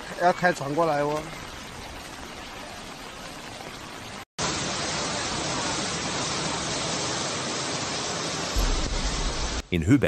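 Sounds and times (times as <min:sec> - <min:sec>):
rushing water: 0:00.0 - 0:09.6.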